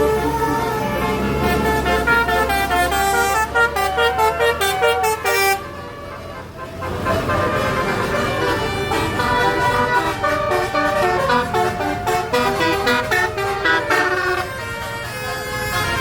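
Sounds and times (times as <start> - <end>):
multi-tone bus horn tune: 0.0 - 16.0.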